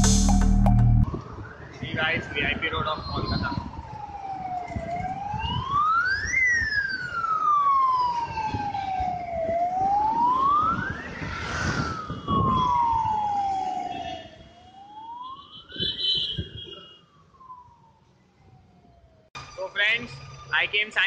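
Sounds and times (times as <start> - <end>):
fire engine siren wailing: 0.8 - 20.8.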